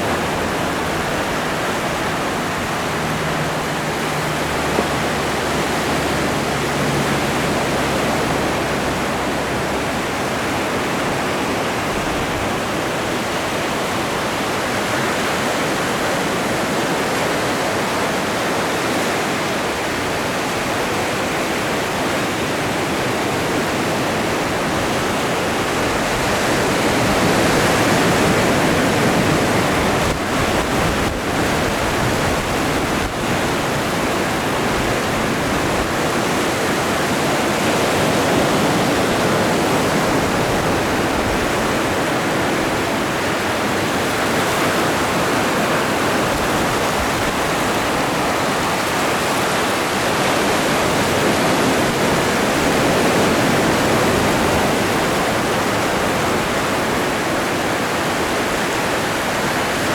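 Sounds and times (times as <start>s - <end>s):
ocean surf rushing: 0.0s - 59.9s.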